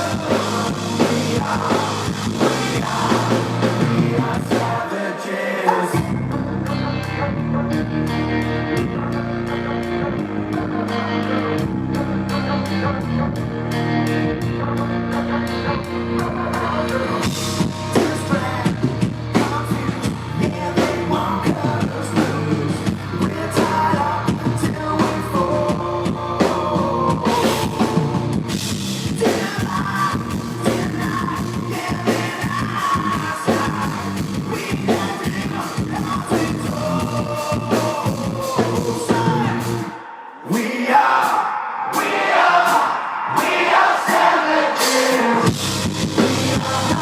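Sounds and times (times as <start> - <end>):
drum kit beating: 0.0 - 5.0, 5.6 - 40.0, 40.8 - 47.0
electric guitar: 0.0 - 40.4, 45.0 - 47.0
live rock band playing: 0.0 - 40.4, 41.0 - 47.0.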